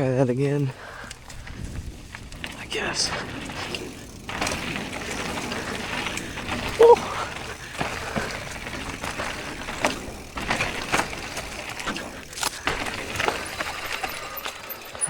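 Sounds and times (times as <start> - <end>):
bike knocking and rattling: 0.0 - 15.0.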